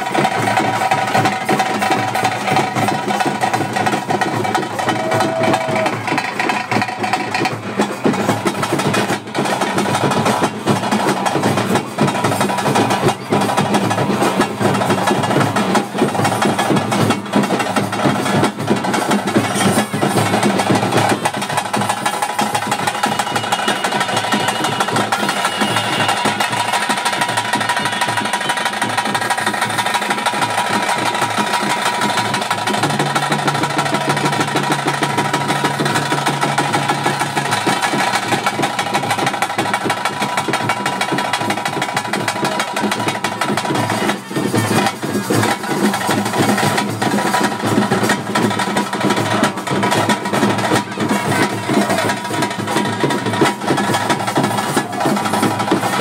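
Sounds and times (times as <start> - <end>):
drums and percussion beat: 0.0 - 56.0.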